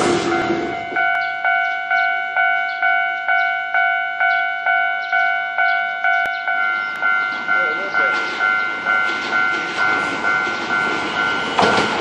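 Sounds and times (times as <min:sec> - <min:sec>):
level crossing warning bell: 0:00.0 - 0:12.0.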